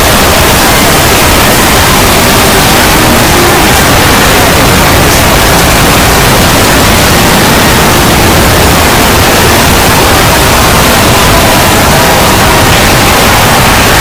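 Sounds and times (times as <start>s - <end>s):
distorted wall of noise: 0.0s - 14.0s.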